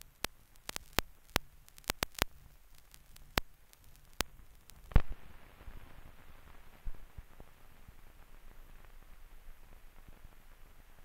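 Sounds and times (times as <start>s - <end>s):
faint hiss: 0.0s - 11.0s
film crackle clicks and pops: 0.0s - 11.0s.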